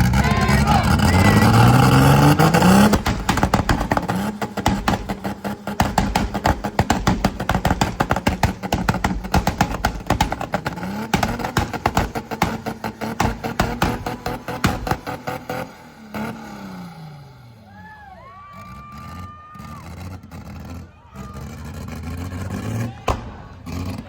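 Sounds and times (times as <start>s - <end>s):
car engine revving: 0.0s - 17.8s, 18.6s - 24.0s.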